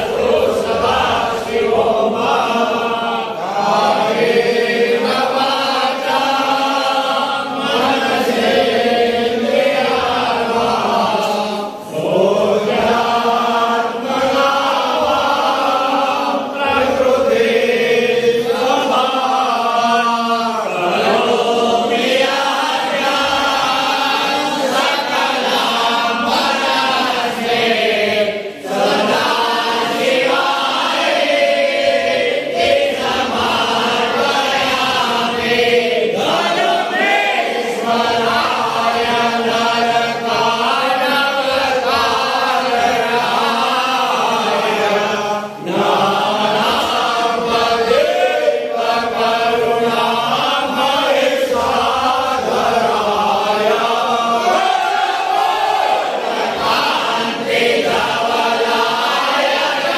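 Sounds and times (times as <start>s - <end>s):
male voices chanting a hymn: 0.0s - 59.9s.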